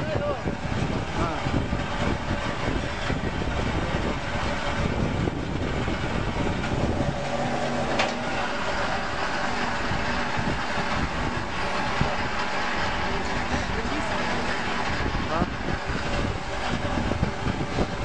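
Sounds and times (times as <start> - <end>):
wire stripping machine running: 0.0 - 18.0.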